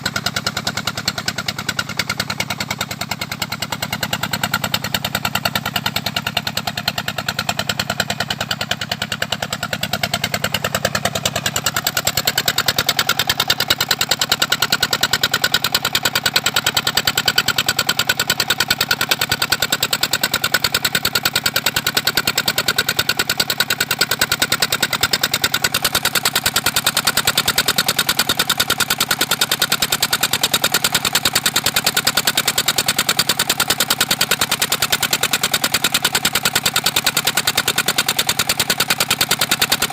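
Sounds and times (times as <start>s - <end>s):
pump engine running: 0.0s - 39.9s.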